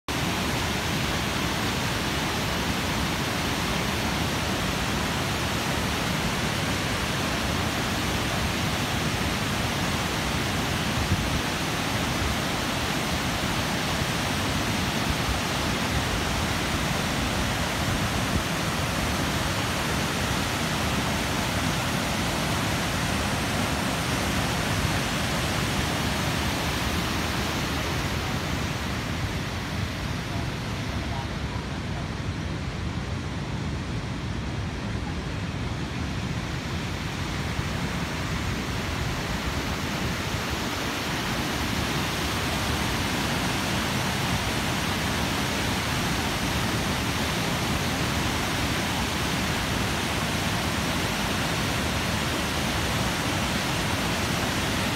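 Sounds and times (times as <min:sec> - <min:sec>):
water rushing over dam spillway: 0:00.1 - 0:54.9.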